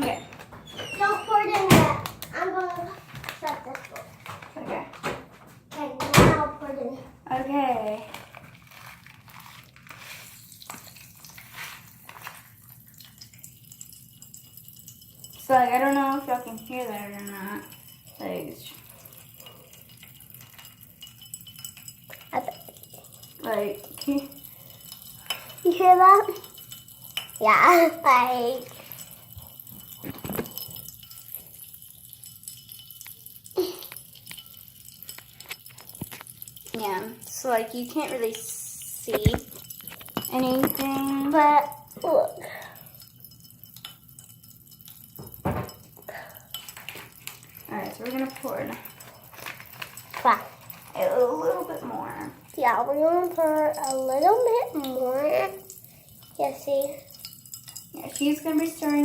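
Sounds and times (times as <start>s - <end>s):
small pops and crackles in water: 1.5s - 5.0s, 7.8s - 59.0s
light fizzing hiss: 7.8s - 59.0s.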